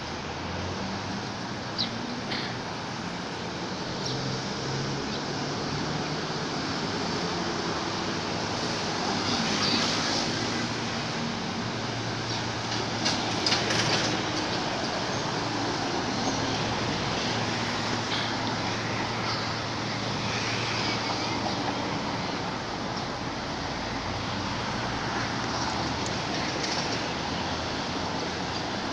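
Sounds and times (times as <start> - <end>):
vehicle hum: 0.0 - 28.9.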